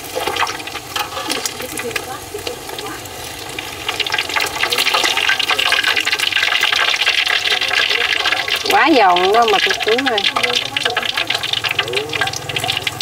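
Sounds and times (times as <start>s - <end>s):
hot oil sizzling and crackling: 0.0s - 13.0s.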